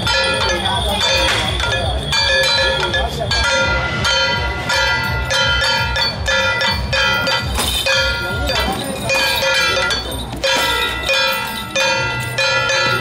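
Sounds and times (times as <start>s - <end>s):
drum thuds: 0.0s - 11.4s.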